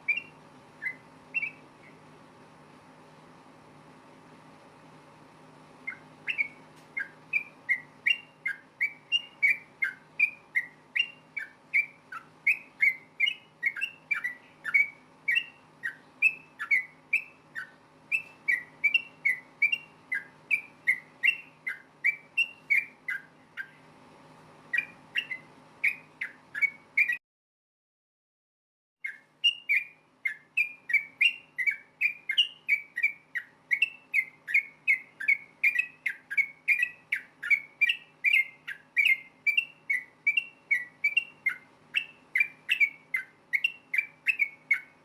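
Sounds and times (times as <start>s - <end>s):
bird calling in whistled notes: 0.0s - 2.0s, 5.8s - 23.9s, 24.7s - 27.2s, 29.0s - 45.0s.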